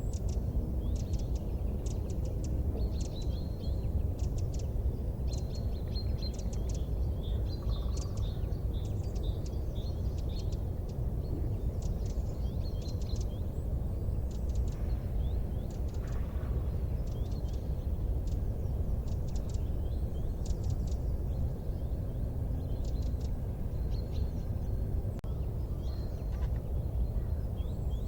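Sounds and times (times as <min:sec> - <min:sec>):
low rumble of wood fire: 0:00.0 - 0:28.0
small birds chirping: 0:00.0 - 0:28.0.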